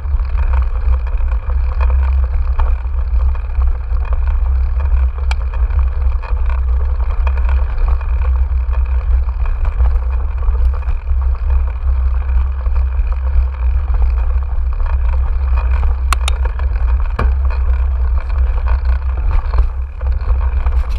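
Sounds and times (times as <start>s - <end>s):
sharp clicks from bike: 0.0s - 20.9s
wind and trail vibration rumble: 0.0s - 20.9s.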